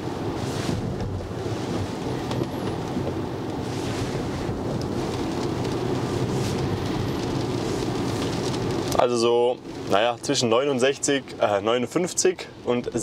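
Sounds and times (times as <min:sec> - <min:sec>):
tyre and road rumble: 0:00.0 - 0:13.0.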